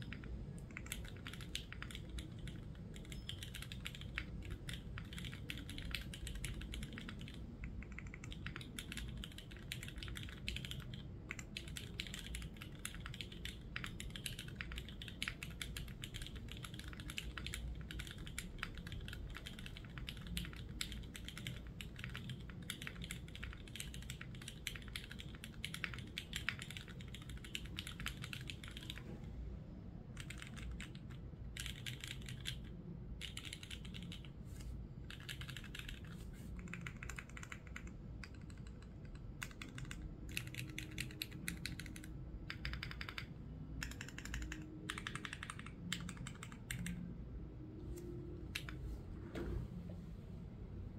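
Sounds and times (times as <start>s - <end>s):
mechanical keyboard typing: 0.0s - 29.3s, 30.1s - 34.4s, 35.0s - 47.1s, 48.2s - 48.8s.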